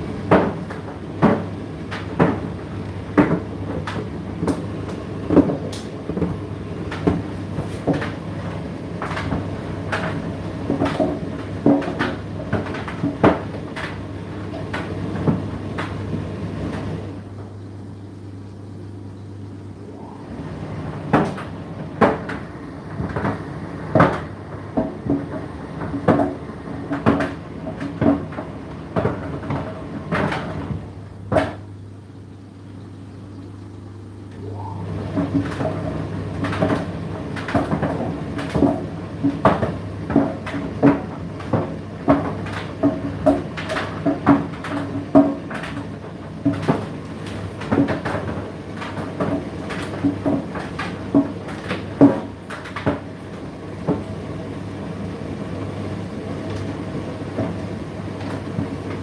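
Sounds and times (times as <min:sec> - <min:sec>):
tumble dryer motor hum: 0:00.0 - 0:59.0.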